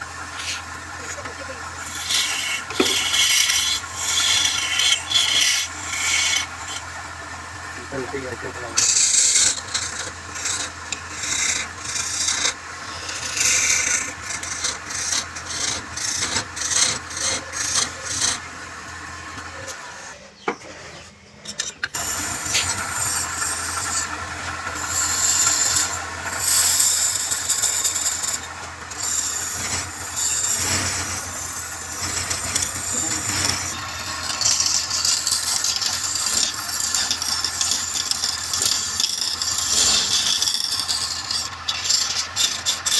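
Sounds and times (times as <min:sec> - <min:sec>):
wood lathe humming: 0:00.0 - 0:21.0, 0:21.9 - 0:42.9
tool scraping spinning wood: 0:00.0 - 0:42.9.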